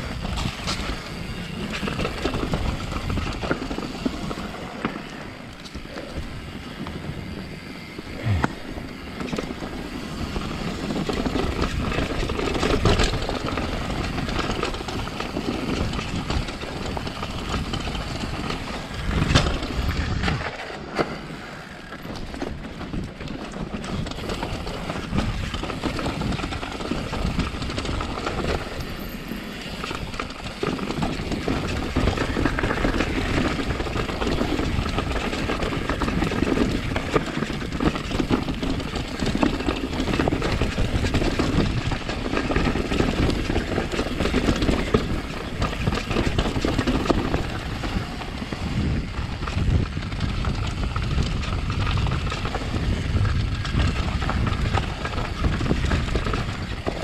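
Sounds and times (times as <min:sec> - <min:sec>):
mountain bike rattling over rocks: 0:00.0 - 0:57.0.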